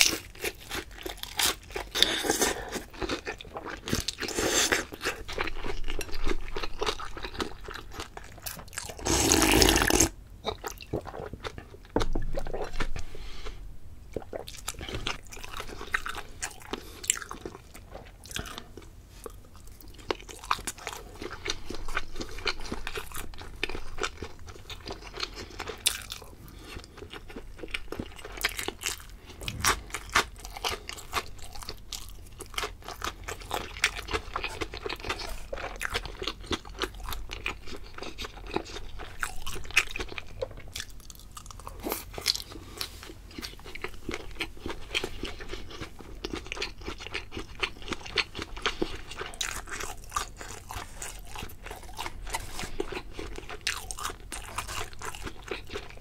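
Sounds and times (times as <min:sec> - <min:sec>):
wet chewing sounds: 0:00.0 - 0:13.5, 0:14.1 - 0:56.0.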